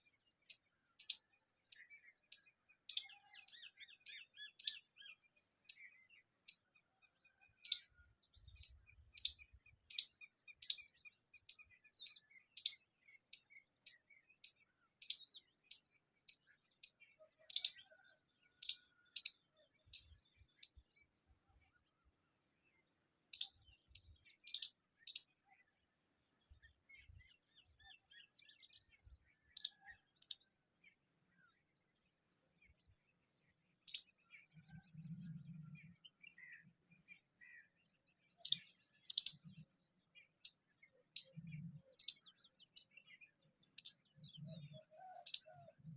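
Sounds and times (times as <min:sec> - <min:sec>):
bird chirping: 0:00.0 - 0:45.9.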